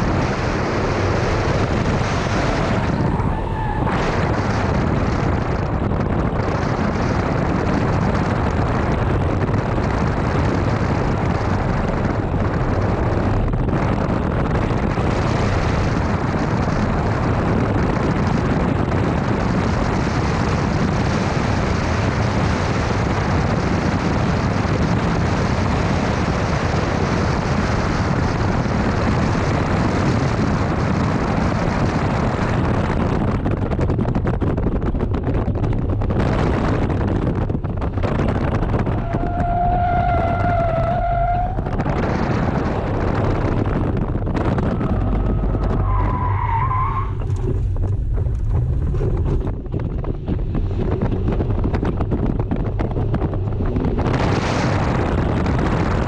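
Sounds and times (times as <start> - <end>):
car engine running hard: 0.0 - 56.0
road rumble: 0.0 - 56.0
wind on microphone: 0.0 - 56.0.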